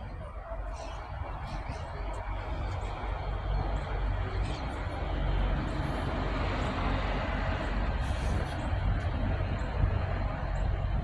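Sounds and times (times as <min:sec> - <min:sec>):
diesel railcar rumble: 0:00.0 - 0:11.0.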